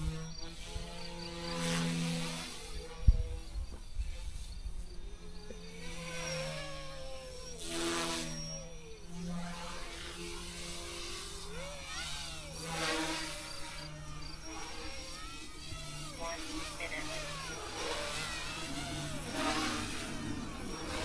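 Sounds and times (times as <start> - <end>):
rc helicopter motor and rotor whine: 0.0 - 21.0.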